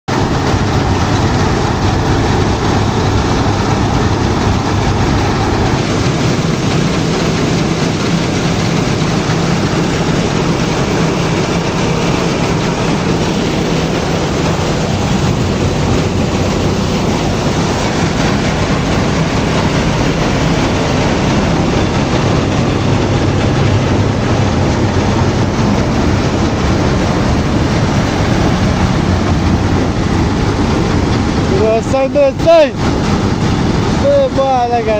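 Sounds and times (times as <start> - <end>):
threshing machine running: 0.1 - 34.9.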